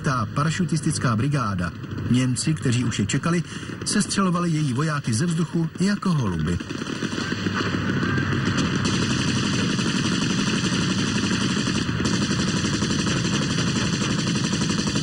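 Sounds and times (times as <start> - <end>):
rapid machine gun and rifle fire: 1.7 - 15.0.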